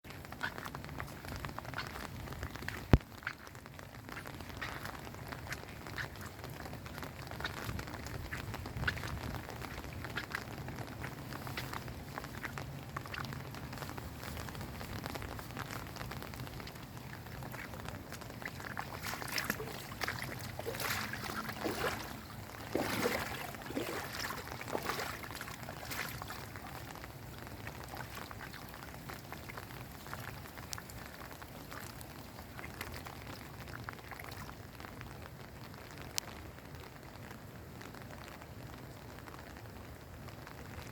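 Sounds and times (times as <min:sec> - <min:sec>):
rain falling: 0:00.0 - 0:40.9
sharp splashes and knocks: 0:00.1 - 0:33.1
water splashing: 0:00.1 - 0:34.7.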